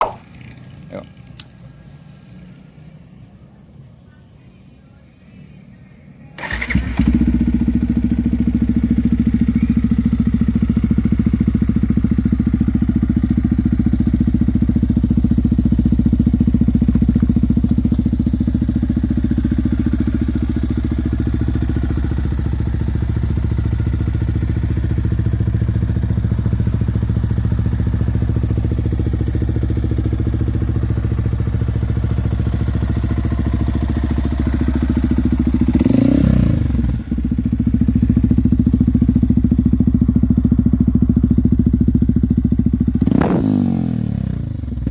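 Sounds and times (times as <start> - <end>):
motorcycle engine idling: 6.4 - 44.9.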